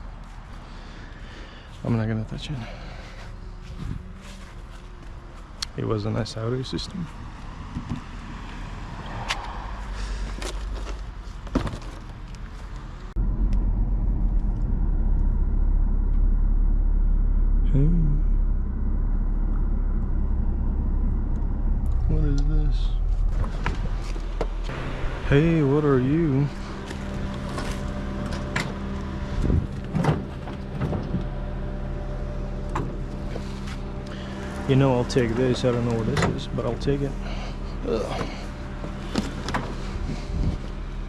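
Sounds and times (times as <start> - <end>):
car engine rumbling: 0.0 - 41.0.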